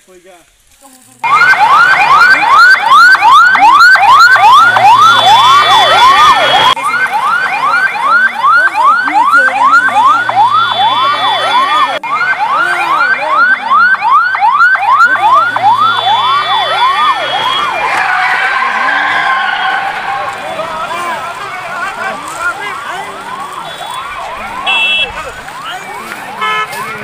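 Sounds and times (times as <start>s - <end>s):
siren-like wailing sound effect: 1.2s - 27.0s.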